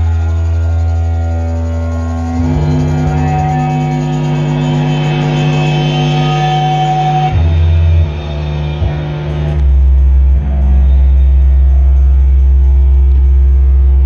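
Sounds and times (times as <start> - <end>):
fuzzed electric guitar and bass: 0.0 - 14.0.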